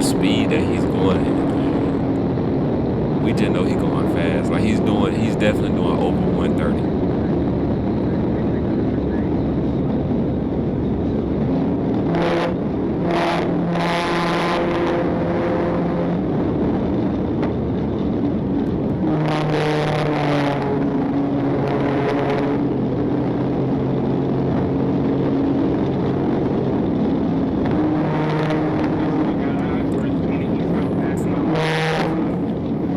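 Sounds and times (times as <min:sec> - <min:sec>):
car engine at high speed: 0:00.0 - 0:32.9.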